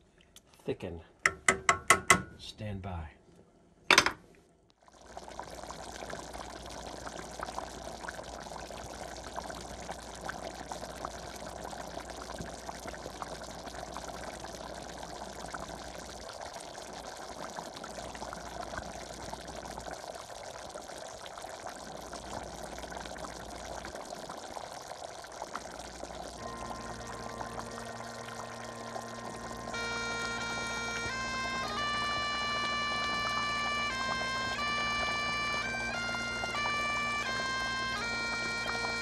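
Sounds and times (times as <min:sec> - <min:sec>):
stew boiling and bubbling: 0:00.0 - 0:02.4, 0:03.4 - 0:39.0.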